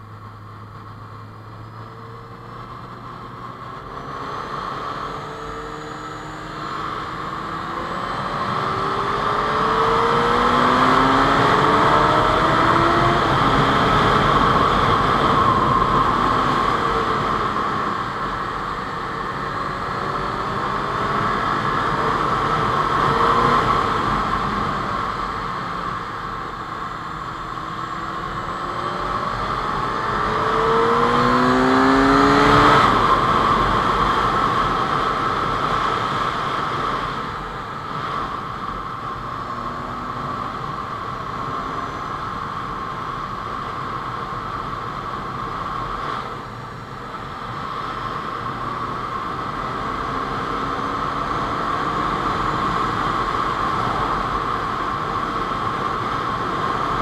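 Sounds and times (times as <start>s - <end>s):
wind noise: 0.0s - 57.0s.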